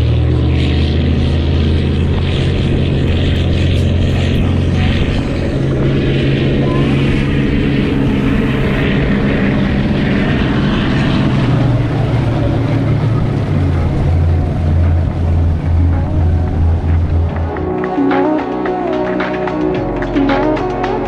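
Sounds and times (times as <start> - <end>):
powerboat engine hum: 0.0 - 21.0
rush of wind and water: 0.0 - 21.0.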